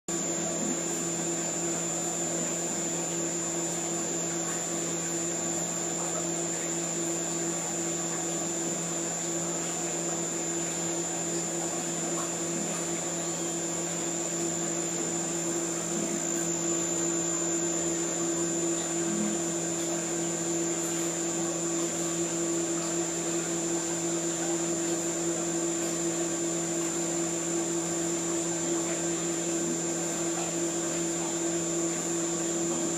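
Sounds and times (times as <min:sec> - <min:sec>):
high machine whine: 0:00.1 - 0:32.9
motor and pump hum: 0:00.1 - 0:32.9.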